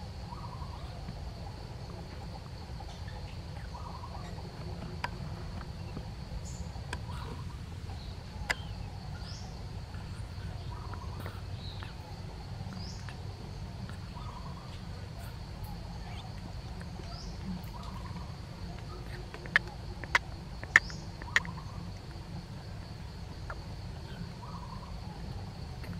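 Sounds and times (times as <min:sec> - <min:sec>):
high insect drone: 0:00.0 - 0:25.9.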